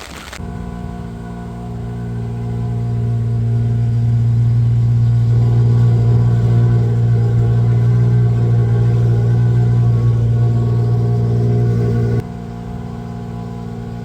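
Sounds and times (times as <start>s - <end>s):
engine humming steadily: 0.4s - 14.0s.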